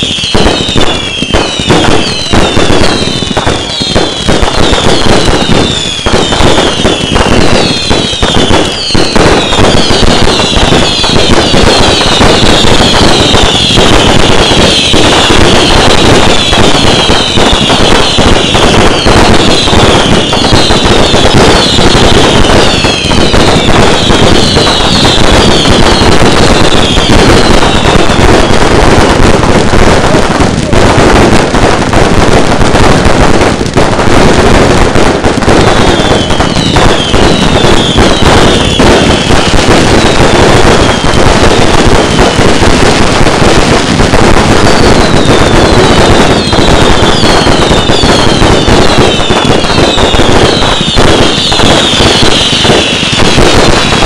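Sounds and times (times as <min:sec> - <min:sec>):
falling firework whistles: 0:00.0 - 0:54.0
firework bangs and crackling: 0:00.0 - 0:54.0.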